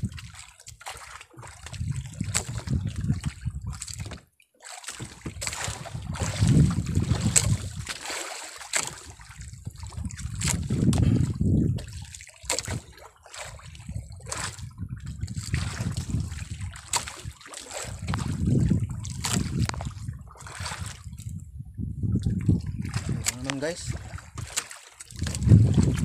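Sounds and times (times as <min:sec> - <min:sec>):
water sloshing against boat: 0:00.0 - 0:26.0
knocks and clicks on boat: 0:00.6 - 0:21.0, 0:22.2 - 0:26.0.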